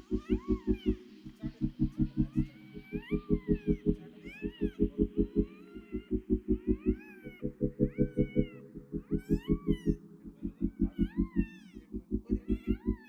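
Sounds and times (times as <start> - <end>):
low throbbing pulse: 0.0 - 13.0
newborn puppies crying: 0.1 - 1.0, 2.0 - 13.0.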